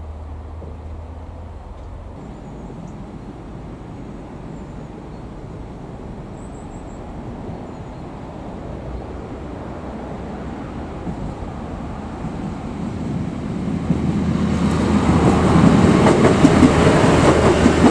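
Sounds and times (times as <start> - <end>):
diesel train rumbling: 0.0 - 17.9.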